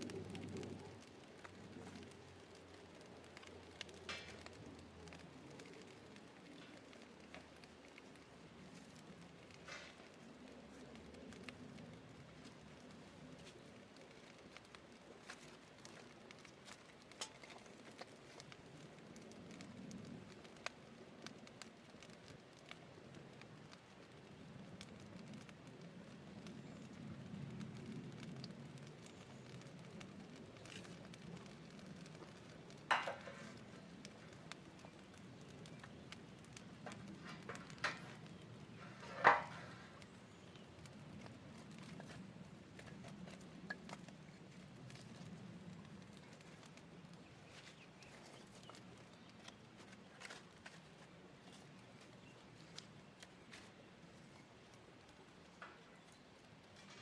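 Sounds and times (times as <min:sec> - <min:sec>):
campfire crackling and popping: 0:00.0 - 0:57.0
soft low hiss: 0:00.0 - 0:57.0.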